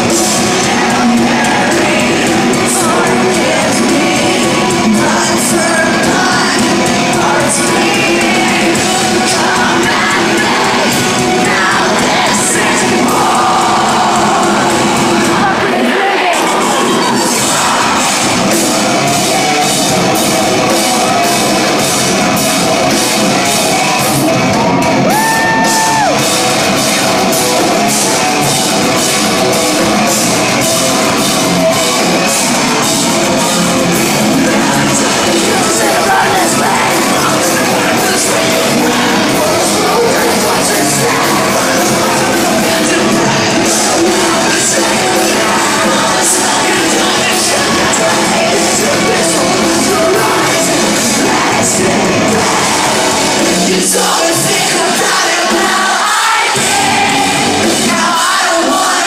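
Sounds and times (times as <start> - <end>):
amplified guitars: 0.0 - 59.0
crowd shouting and singing along: 0.0 - 59.0
drum beat: 0.0 - 59.0
person singing: 0.0 - 59.0.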